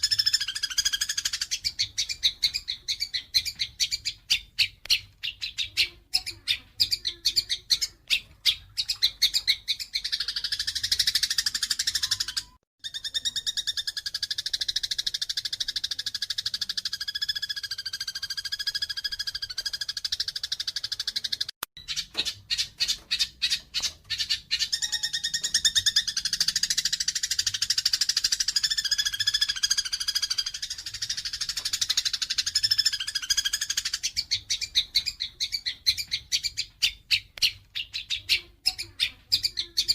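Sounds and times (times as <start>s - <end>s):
sparrows chirping and chattering: 0.0s - 39.9s.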